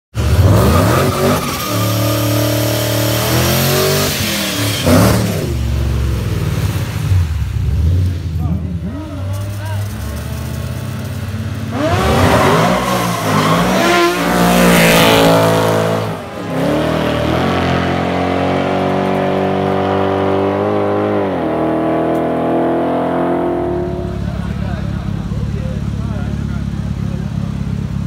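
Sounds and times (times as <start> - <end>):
race car engines revving: 0.1 - 28.0.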